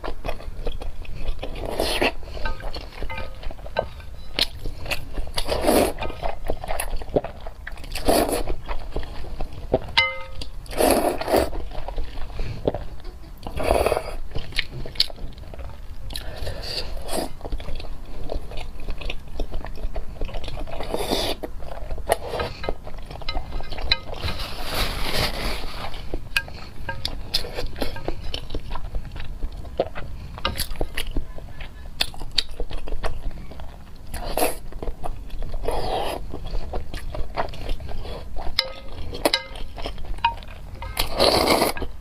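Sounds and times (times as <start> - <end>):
person chewing and crunching: 0.0 - 42.0.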